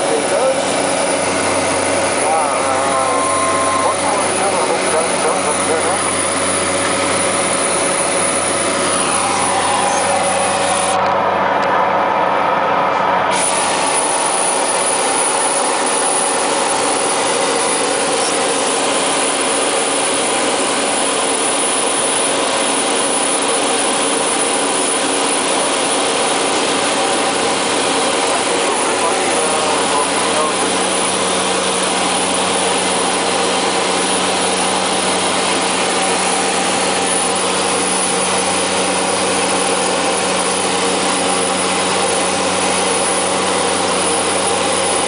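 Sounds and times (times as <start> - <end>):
propeller engine drone: 0.0 - 45.0.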